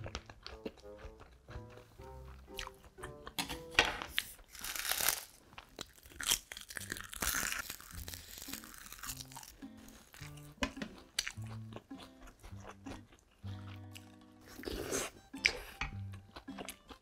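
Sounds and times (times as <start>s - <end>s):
crunchy bites and chewing: 0.0s - 17.0s
soft background music: 0.0s - 17.0s.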